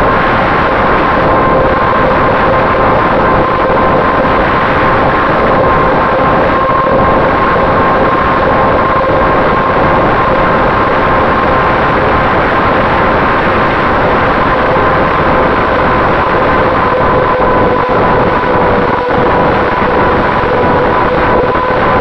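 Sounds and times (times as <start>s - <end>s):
electric motor and propeller whine: 0.0s - 22.0s
wind rush on microphone: 0.0s - 22.0s.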